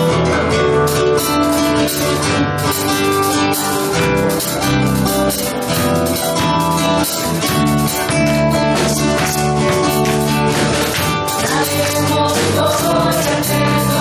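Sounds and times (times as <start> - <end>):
church band worship music: 0.0 - 14.0
strummed acoustic guitar: 0.0 - 14.0.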